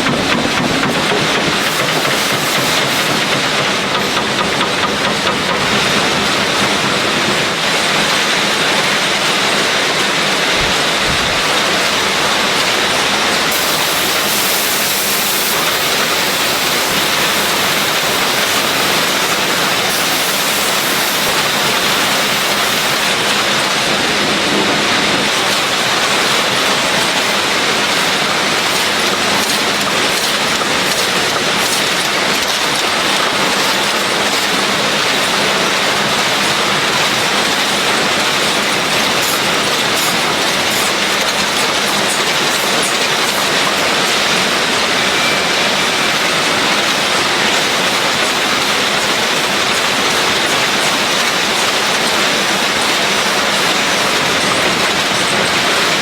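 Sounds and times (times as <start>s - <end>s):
factory machinery running: 0.0s - 56.0s.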